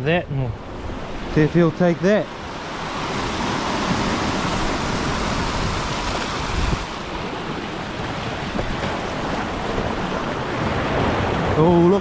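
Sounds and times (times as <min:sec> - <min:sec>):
surf washing against rocks: 0:00.0 - 0:12.0
wind buffeting microphone: 0:00.0 - 0:12.0.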